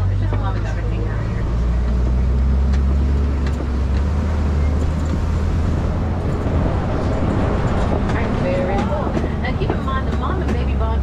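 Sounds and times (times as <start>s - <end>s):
truck engine droning: 0.0s - 11.0s
vehicle rattles: 0.0s - 11.0s.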